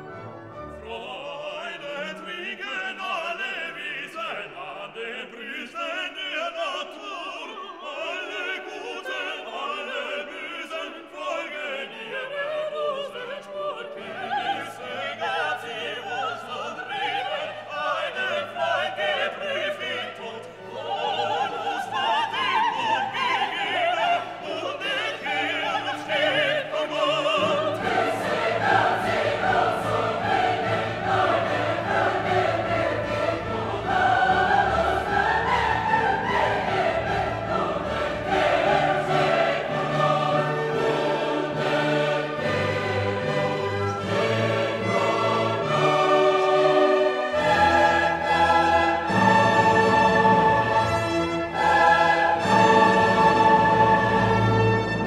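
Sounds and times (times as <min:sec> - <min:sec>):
opera-style singing with instruments: 0:00.0 - 0:55.0.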